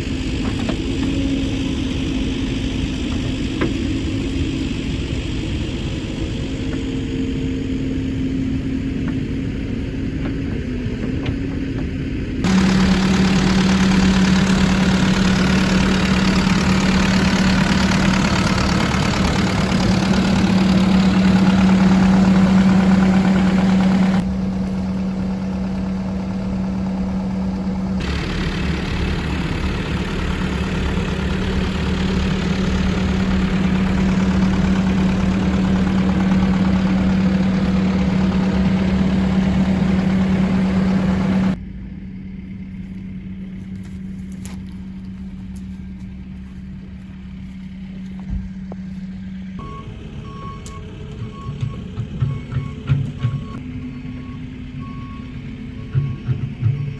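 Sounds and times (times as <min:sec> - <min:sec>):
diesel excavator engine running: 0:00.0 - 0:56.9.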